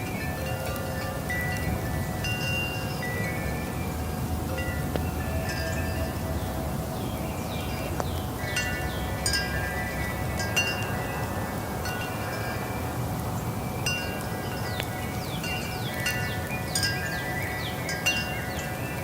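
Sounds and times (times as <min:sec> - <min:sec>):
low rush of wind: 0:00.0 - 0:19.0
wind chimes ringing: 0:00.0 - 0:19.0.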